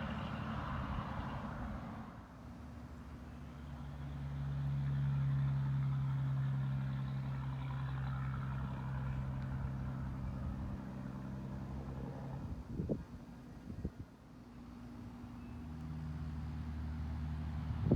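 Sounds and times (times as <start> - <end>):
diesel engine low drone: 0.0 - 17.9.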